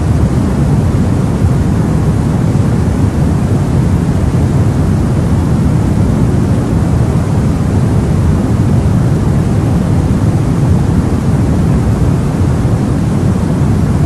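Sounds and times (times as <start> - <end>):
deep white noise: 0.0 - 14.0.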